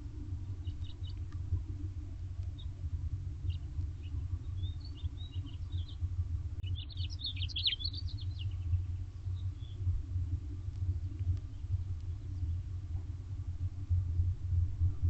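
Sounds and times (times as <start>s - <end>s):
small birds chirping: 0.0s - 13.0s
steady low rumble: 0.0s - 15.0s.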